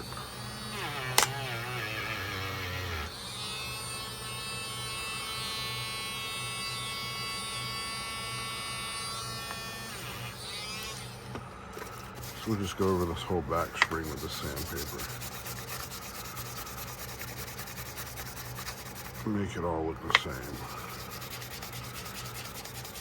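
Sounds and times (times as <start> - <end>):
small electric motor buzzing: 0.0 - 19.3, 20.2 - 23.0.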